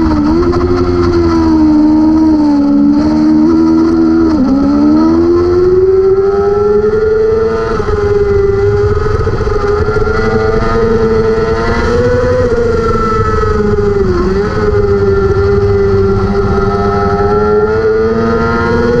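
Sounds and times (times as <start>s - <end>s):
motorcycle engine at high revs: 0.0s - 19.0s
wind rush: 0.0s - 19.0s.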